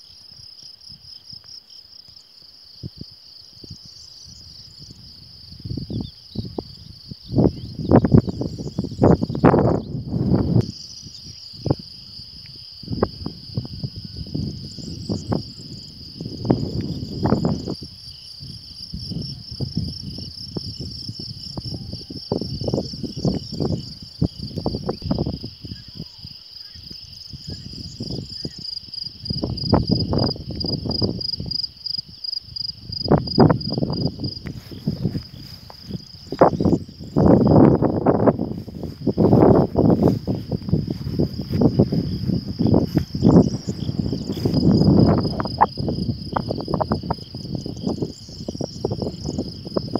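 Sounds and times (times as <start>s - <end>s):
insects trilling: 0.0s - 49.9s.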